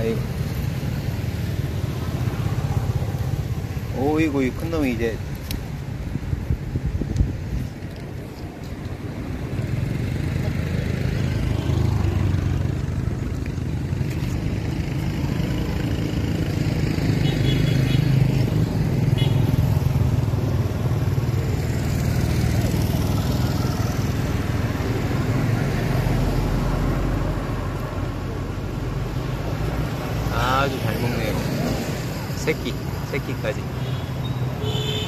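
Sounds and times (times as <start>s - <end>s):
motorbike and scooter traffic: 0.0s - 35.0s.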